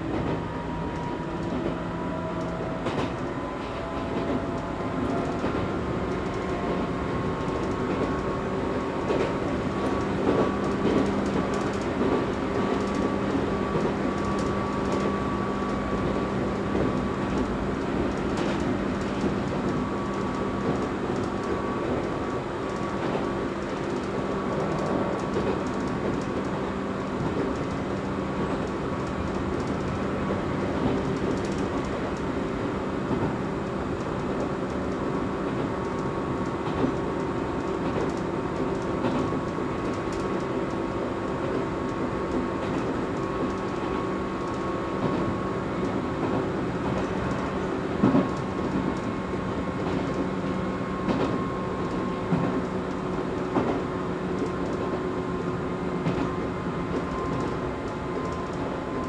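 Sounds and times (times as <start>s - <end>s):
electric train rumbling: 0.0s - 59.0s
wheels clacking on track: 0.0s - 59.0s.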